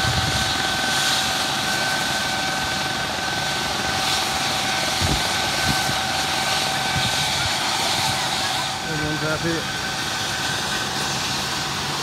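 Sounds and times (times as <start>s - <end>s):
helicopter turbine whine: 0.0s - 12.0s.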